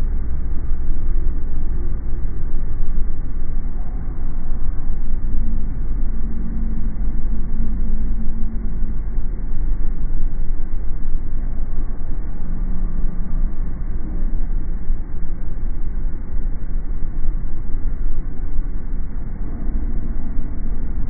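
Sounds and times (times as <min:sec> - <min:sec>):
car road and engine rumble: 0:00.0 - 0:21.0
faint hum: 0:00.0 - 0:21.0.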